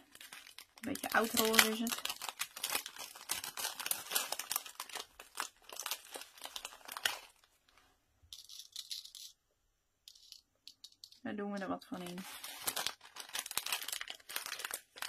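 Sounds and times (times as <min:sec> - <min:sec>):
plastic bag crinkling: 0:00.0 - 0:09.1, 0:11.9 - 0:15.0
sequins rustling: 0:00.0 - 0:09.4, 0:10.0 - 0:15.0.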